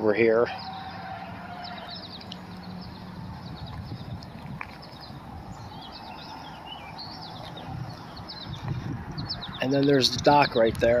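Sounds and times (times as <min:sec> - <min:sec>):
small birds chirping: 0:00.4 - 0:11.0.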